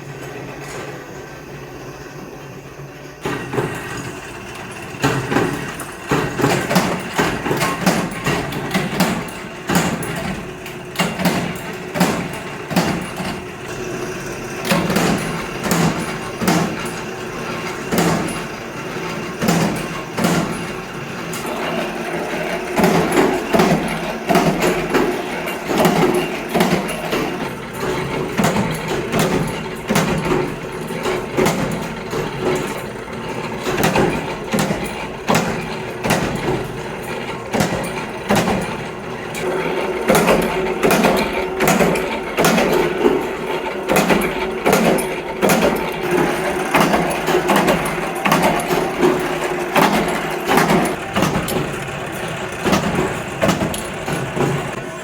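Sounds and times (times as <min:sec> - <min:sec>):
steady machine drone: 0:00.0 - 0:55.0
metal knocks and clanks: 0:03.2 - 0:55.0.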